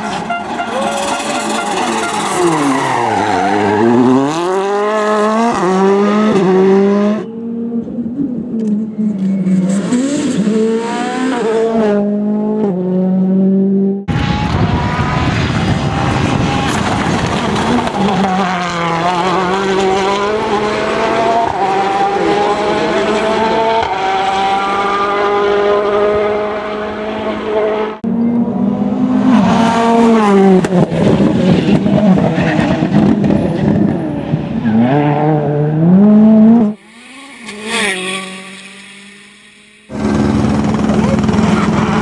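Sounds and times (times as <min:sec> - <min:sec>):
rally car engine at full throttle: 0:00.0 - 0:42.0.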